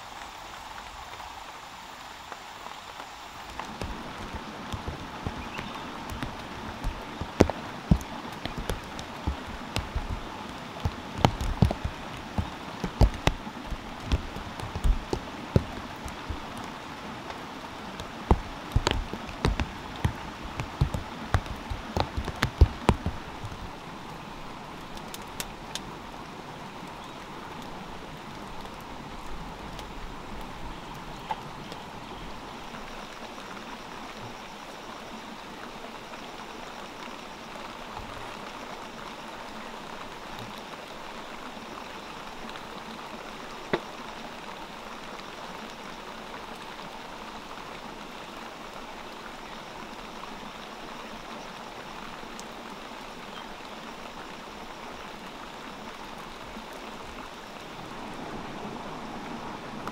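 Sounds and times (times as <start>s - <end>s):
rain on vegetation: 0.0s - 59.9s.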